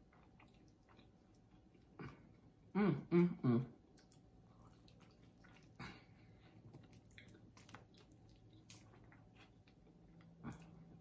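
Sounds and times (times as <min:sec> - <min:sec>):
wet clicks and smacks of eating: 0:00.0 - 0:02.2, 0:03.8 - 0:10.8.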